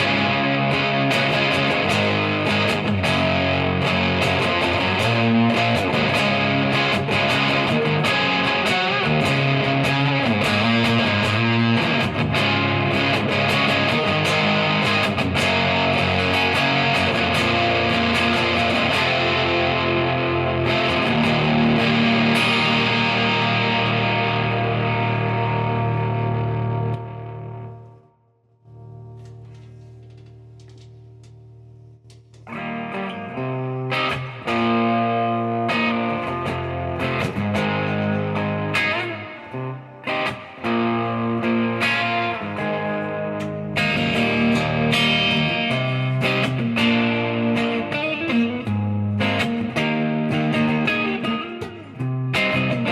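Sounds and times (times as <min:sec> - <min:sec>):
distorted electric guitar: 0:00.0 - 0:52.9.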